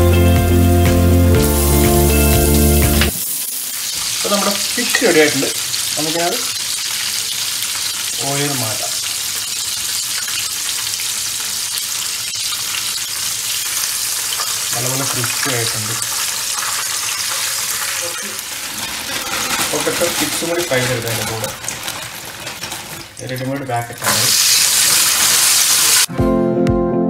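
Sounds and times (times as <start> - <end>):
fish deep-frying in oil: 1.4 - 26.1.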